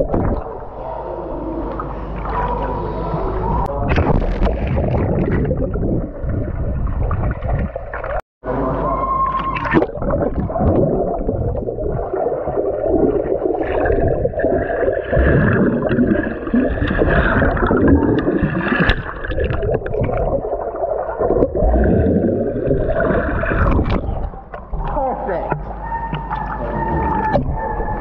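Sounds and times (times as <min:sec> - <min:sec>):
water gurgling and sloshing: 0:00.0 - 0:28.0.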